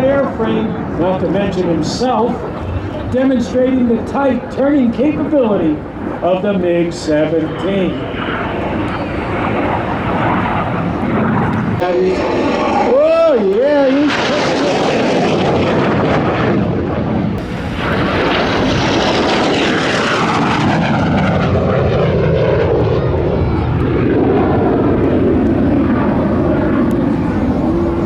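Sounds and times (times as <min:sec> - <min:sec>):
jet fighter roaring past: 0:00.0 - 0:28.0.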